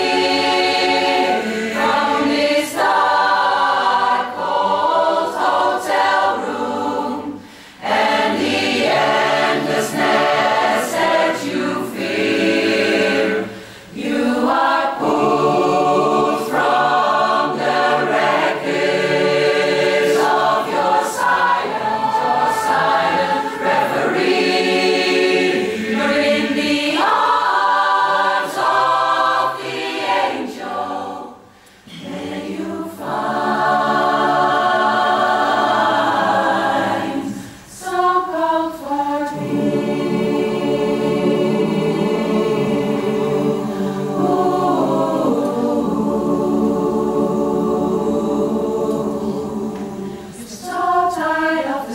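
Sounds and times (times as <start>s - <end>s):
choir singing a cappella: 0.0s - 51.9s.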